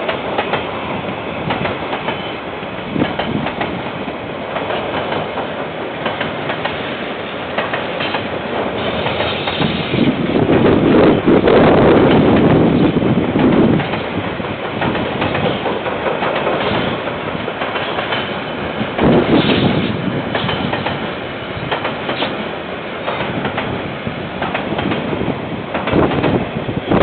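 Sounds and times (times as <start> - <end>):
train wagons clattering on rails: 0.0 - 27.0.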